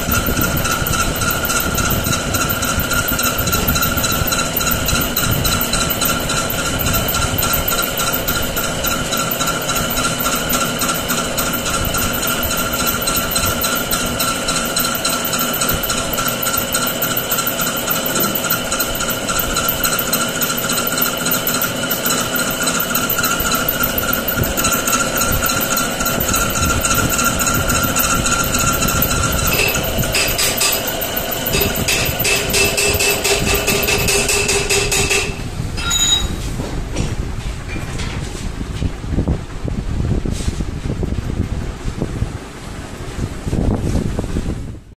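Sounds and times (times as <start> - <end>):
metal lathe whining and rattling: 0.0 - 36.5.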